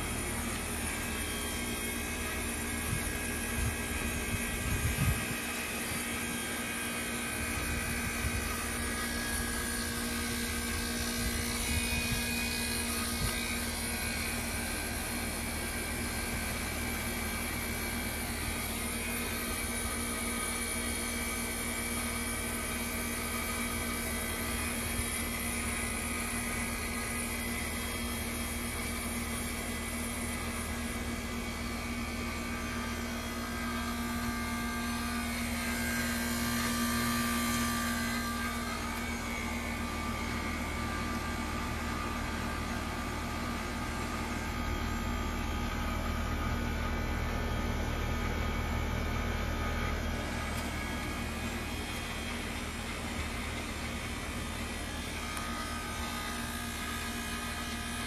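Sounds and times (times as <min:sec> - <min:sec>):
heat pump hiss: 0:00.0 - 0:58.0
heat pump mechanical hum: 0:00.0 - 0:58.0.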